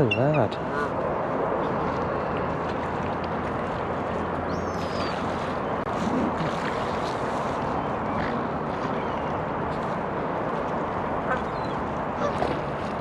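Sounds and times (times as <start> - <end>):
rushing lakeside ambience: 0.0 - 13.0.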